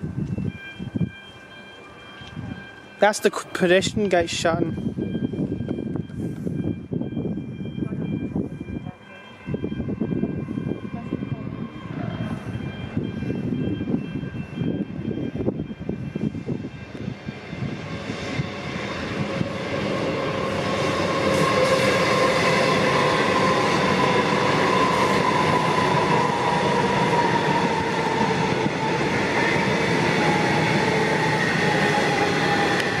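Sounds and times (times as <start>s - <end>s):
faint train whine falling in pitch: 0.0s - 33.0s.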